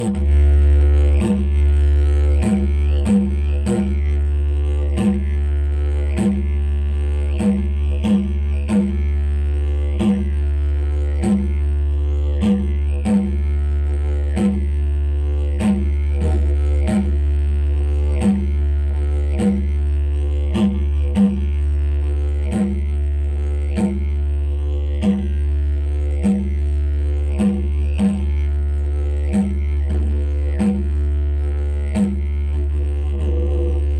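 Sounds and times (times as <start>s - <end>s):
didgeridoo drone: 0.0s - 33.9s.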